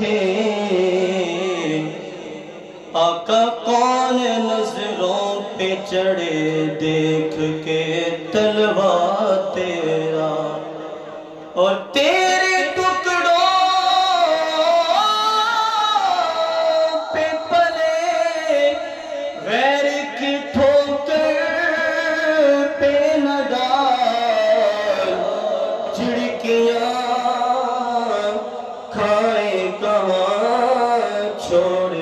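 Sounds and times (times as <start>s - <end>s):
person singing devotional song: 0.0s - 32.0s.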